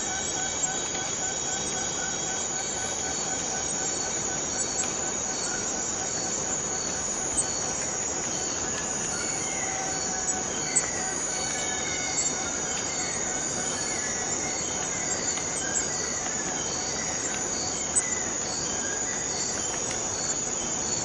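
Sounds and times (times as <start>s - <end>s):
cicadas buzzing: 0.0s - 21.0s
pulsing lower insect tones: 0.0s - 21.0s.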